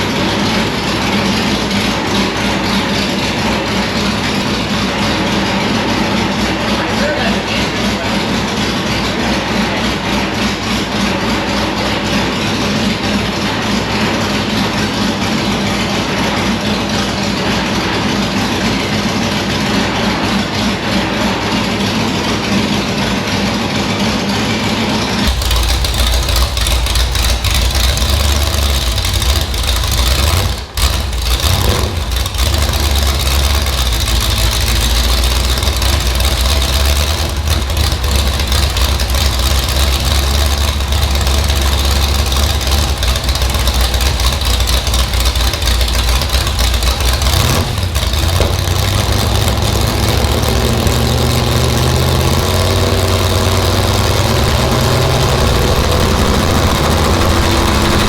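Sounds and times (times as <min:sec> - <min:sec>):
race car engine idling: 0:00.0 - 0:58.0.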